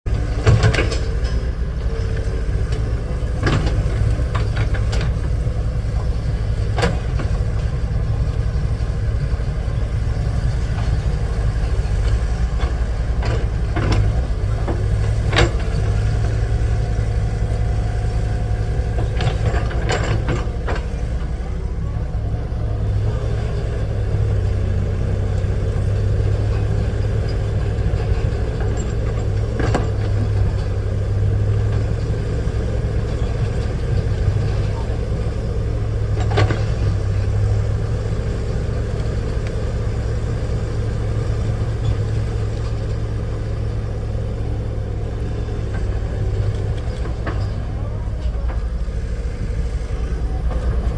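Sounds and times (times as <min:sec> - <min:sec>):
excavator diesel engine running: 0:00.1 - 0:50.9.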